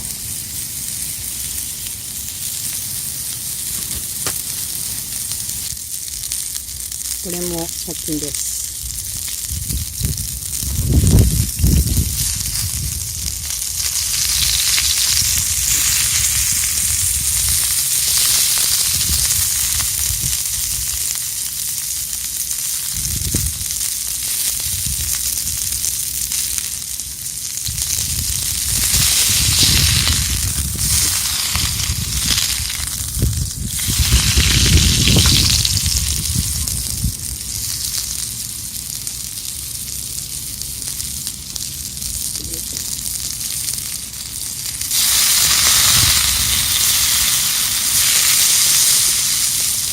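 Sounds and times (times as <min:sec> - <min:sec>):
low rumbles: 0:00.0 - 0:22.0, 0:22.8 - 0:49.1
food sizzling in a pan: 0:00.0 - 0:49.9.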